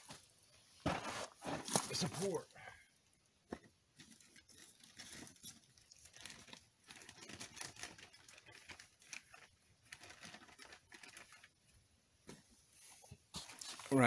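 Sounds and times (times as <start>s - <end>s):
faint crinkling and rustling: 0.0s - 14.0s.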